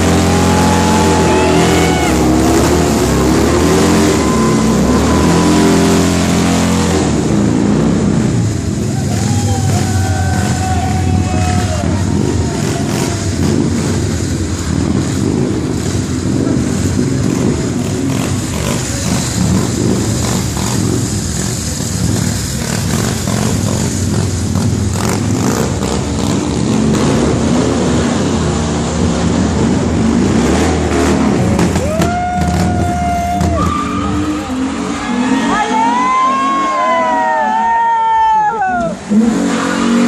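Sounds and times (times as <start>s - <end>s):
vehicle engines running: 0.0s - 40.0s.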